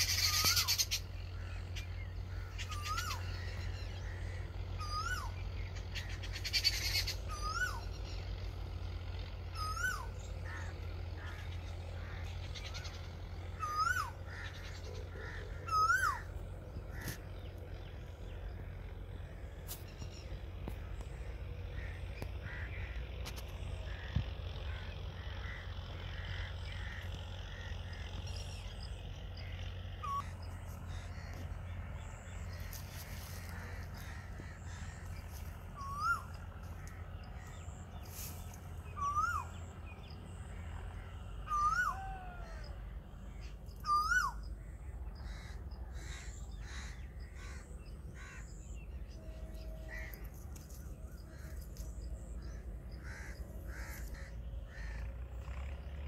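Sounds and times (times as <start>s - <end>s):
bird calling: 0.0s - 56.0s
steady low rumble: 0.0s - 56.0s.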